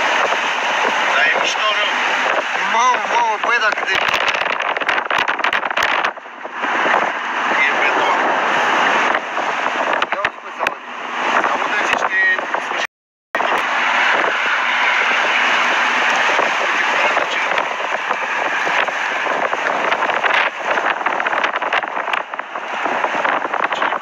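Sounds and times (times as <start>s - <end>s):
wind roaring over microphone: 0.0s - 24.0s.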